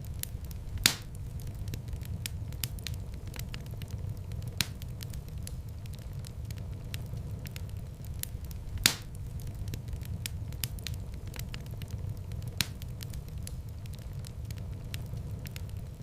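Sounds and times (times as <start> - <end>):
fire popping: 0.0 - 16.0
low steady rumble: 0.0 - 16.0
wood fire crackling: 0.0 - 16.0.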